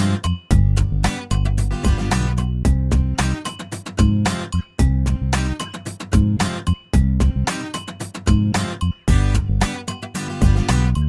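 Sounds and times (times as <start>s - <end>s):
music with guitar and heavy bass: 0.0s - 11.0s.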